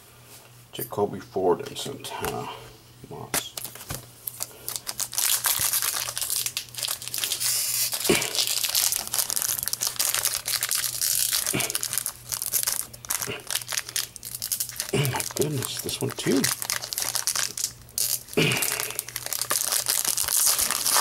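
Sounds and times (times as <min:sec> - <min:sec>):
foil wrapper crinkling and tearing: 0:03.4 - 0:21.0.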